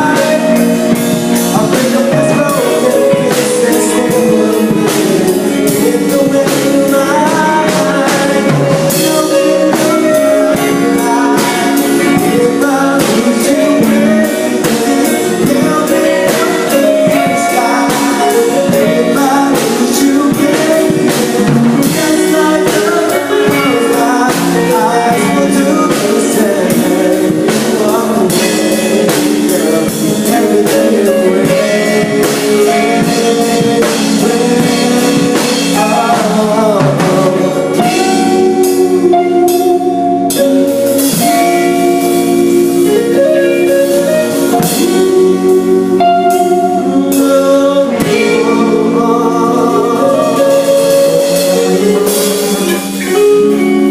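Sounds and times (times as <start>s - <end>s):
live band playing pop ballad: 0.0s - 53.9s
person singing: 0.0s - 53.9s.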